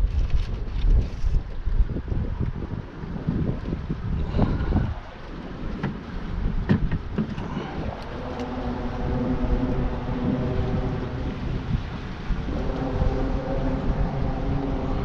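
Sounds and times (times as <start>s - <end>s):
wind rumble on microphone: 0.0s - 15.0s
motorboat engine humming: 2.5s - 15.0s.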